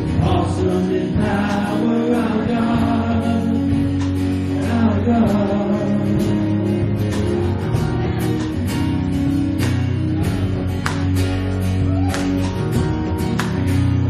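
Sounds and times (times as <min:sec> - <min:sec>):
bass: 0:00.0 - 0:14.0
steady drums: 0:00.0 - 0:14.0
strummed guitar: 0:00.0 - 0:14.0.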